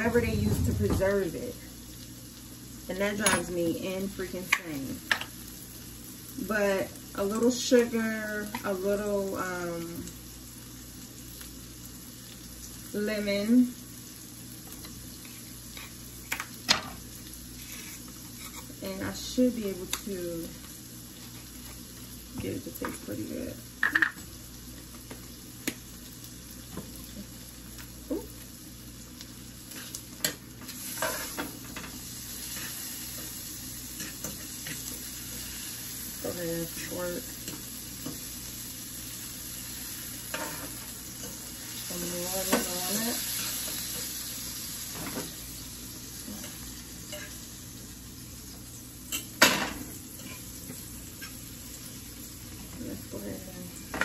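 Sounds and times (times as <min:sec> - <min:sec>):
shrimp sizzling in a pan: 0:00.0 - 0:54.0.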